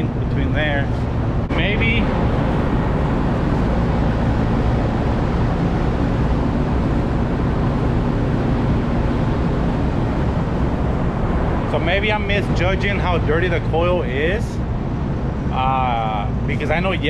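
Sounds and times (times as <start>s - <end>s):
air conditioning unit droning: 0.0s - 17.0s.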